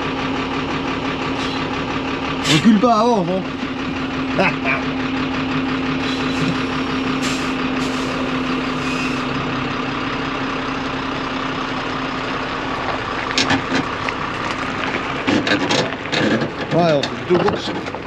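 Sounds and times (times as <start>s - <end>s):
heavy truck engine drone: 0.0s - 18.0s.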